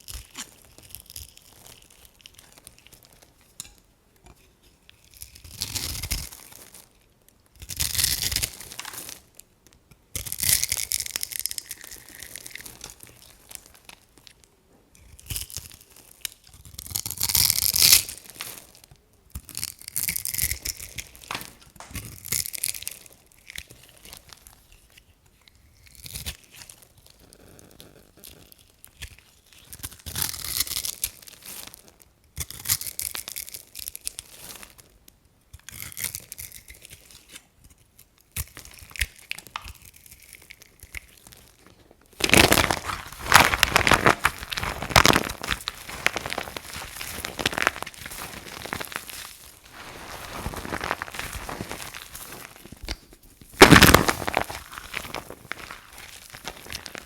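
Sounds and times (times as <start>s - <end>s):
dry soap crunching: 0.0s - 3.8s, 4.6s - 9.4s, 10.1s - 26.8s, 28.4s - 34.9s, 35.7s - 57.0s.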